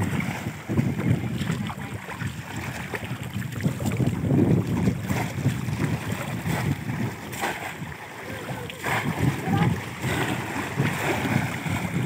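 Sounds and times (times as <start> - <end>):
muddy water sloshing and splashing: 0.0 - 12.0
wind rumbling on microphone: 0.0 - 12.0.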